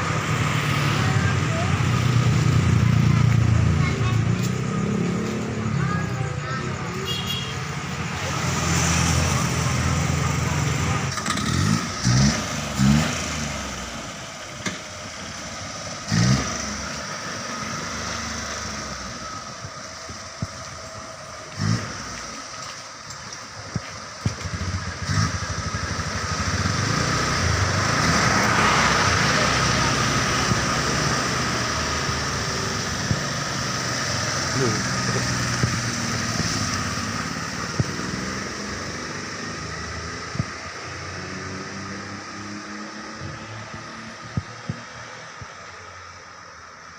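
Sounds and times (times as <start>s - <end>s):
car engine revving: 0.0s - 46.9s
road noise: 0.0s - 46.9s.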